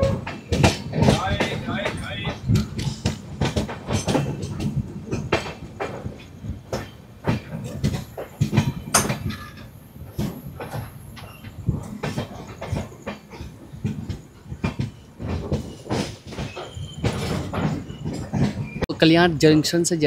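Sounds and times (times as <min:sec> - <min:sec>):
wheels clattering over rail joints: 0:00.0 - 0:19.9
train rumble: 0:00.0 - 0:20.0.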